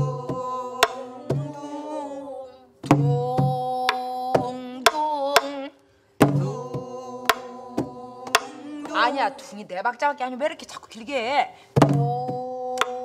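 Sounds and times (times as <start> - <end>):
person singing: 0.0 - 9.7, 11.8 - 13.0.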